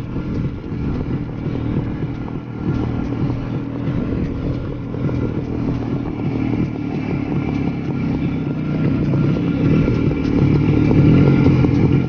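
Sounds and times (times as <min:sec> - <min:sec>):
two-stroke motorcycle engine running: 0:00.0 - 0:12.0.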